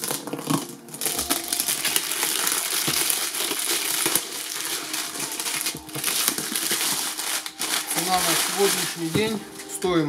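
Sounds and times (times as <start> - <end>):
plastic film crinkling: 0.0 - 10.0.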